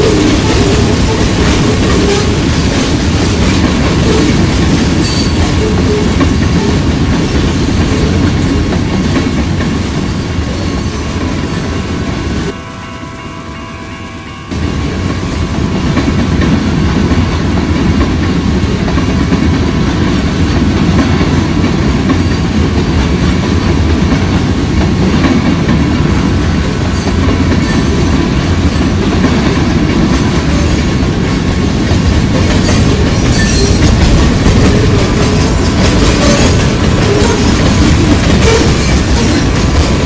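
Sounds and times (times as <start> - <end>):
wheels clicking over rail joints: 0.0 - 11.3, 16.0 - 40.0
rumble of rolling railcars: 0.0 - 40.0.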